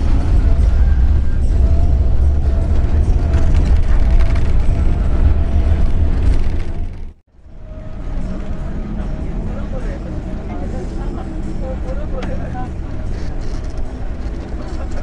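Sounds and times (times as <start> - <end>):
moving bus rumble: 0.0 - 15.0.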